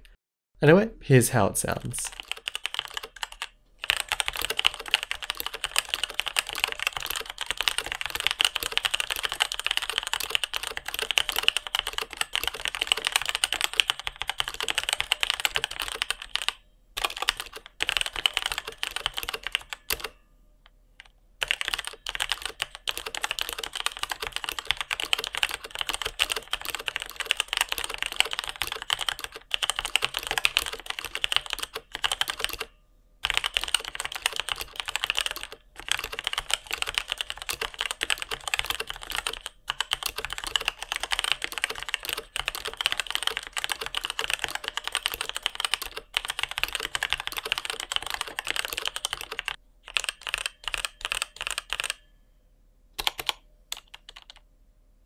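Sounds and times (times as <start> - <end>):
mechanical keyboard typing: 2.0 - 20.2, 21.0 - 52.0, 53.0 - 54.4.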